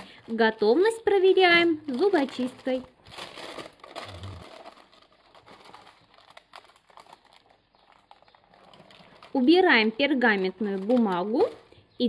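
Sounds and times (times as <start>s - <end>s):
parchment paper crinkling: 0.0s - 11.8s.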